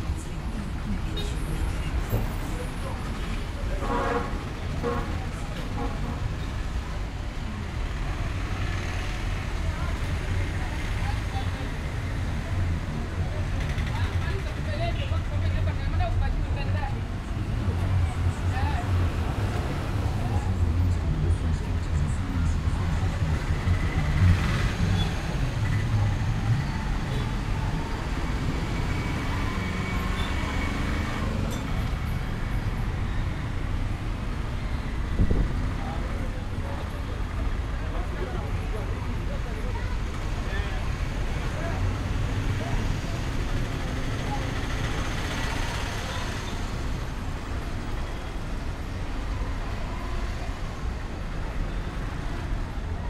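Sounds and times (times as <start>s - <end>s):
street traffic engines passing: 0.0s - 53.0s.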